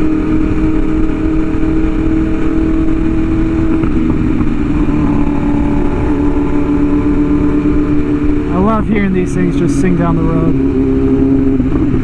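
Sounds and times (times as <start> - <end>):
motorcycle engines cruising: 0.0 - 12.0.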